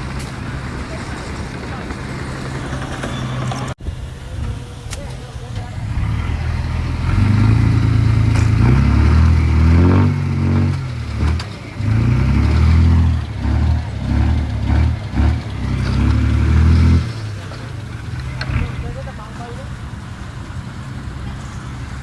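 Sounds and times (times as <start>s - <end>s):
heavy machinery diesel engine revving: 0.0s - 22.0s.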